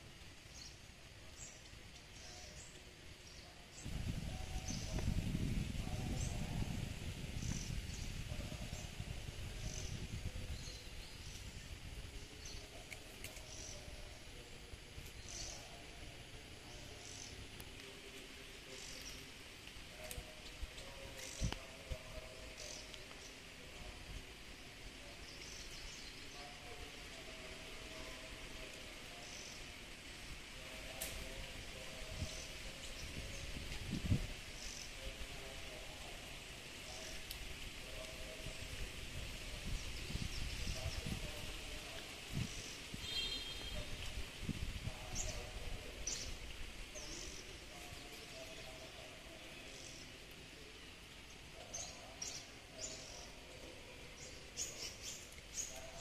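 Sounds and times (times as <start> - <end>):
insects humming: 0.0 - 56.0.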